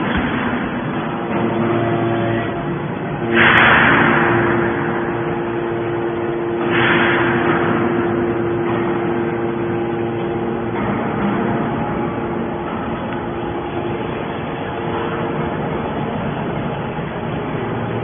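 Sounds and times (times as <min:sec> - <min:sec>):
hydraulic baler pump hum: 0:00.0 - 0:18.0
loud rushing surges: 0:00.0 - 0:18.0.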